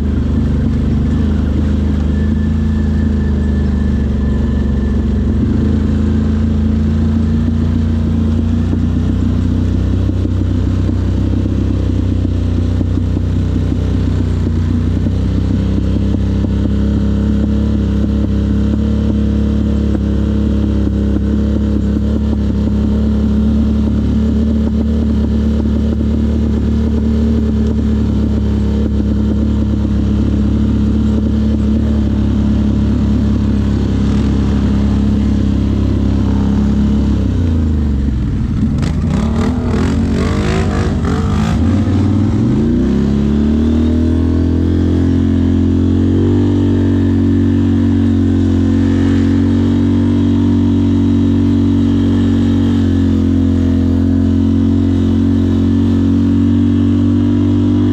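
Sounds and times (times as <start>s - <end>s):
quad bike engine running: 0.0s - 57.9s.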